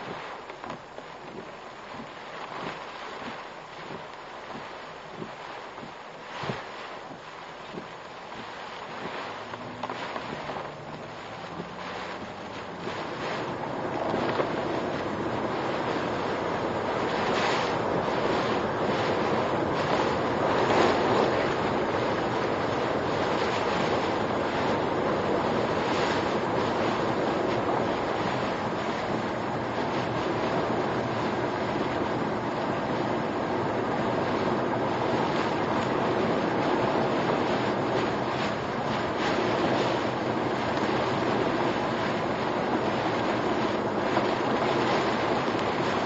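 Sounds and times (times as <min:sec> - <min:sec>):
wind and rain on car: 0:00.0 - 0:46.0.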